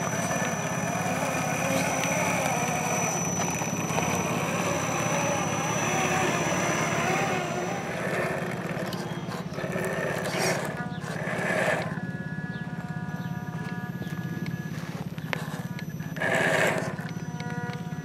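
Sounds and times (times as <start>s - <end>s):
rc car motor whining: 0.0s - 18.0s.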